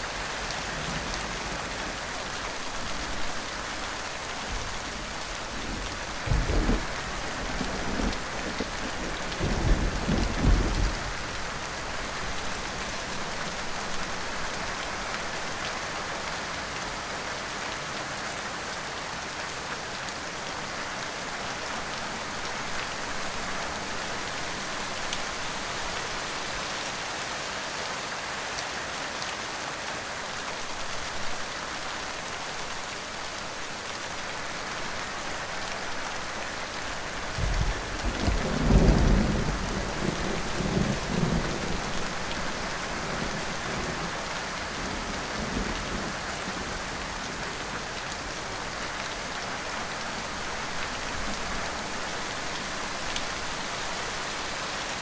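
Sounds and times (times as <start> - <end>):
steady heavy rain: 0.0 - 55.0.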